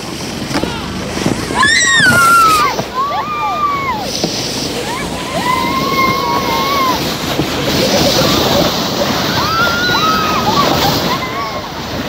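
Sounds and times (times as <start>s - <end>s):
plastic sleds sliding over snow: 0.0s - 12.0s.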